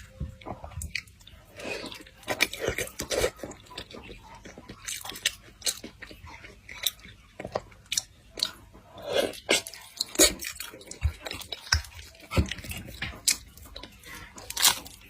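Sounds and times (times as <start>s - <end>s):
chewing and biting: 0.0s - 15.0s.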